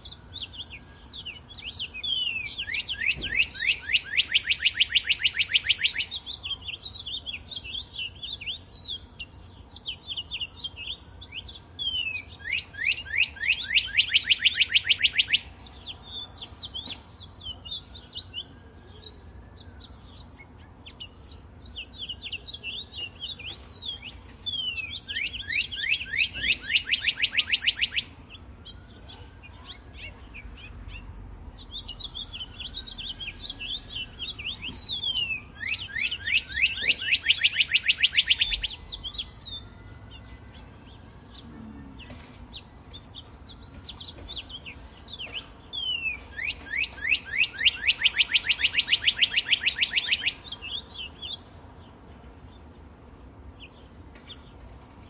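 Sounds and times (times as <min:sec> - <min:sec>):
loud rapid bird trill: 0:00.0 - 0:52.8
songbirds chirping: 0:00.0 - 0:55.0.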